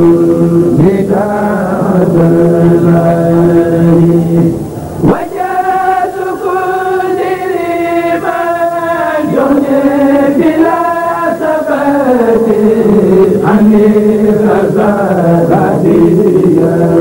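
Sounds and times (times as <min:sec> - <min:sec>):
voices singing devotional chant: 0:00.0 - 0:17.0.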